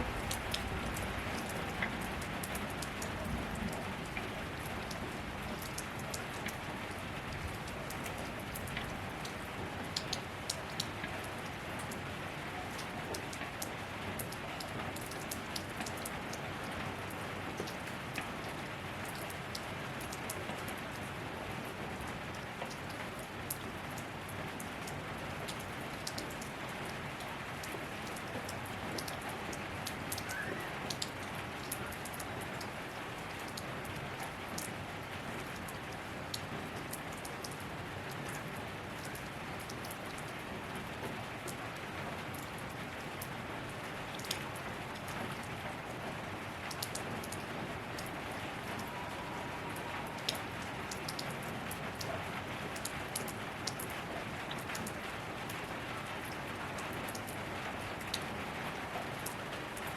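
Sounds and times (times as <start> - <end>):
raindrops ticking on surfaces: 0.0 - 59.9
steady rain hiss: 0.0 - 59.9.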